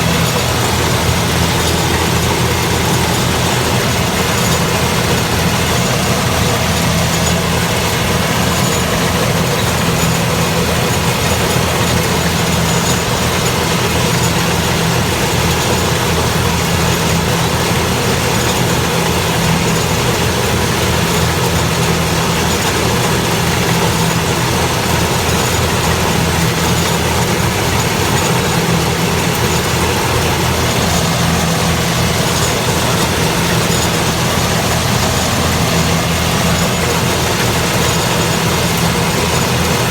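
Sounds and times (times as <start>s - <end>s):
harvester engine and machinery: 0.0s - 39.9s.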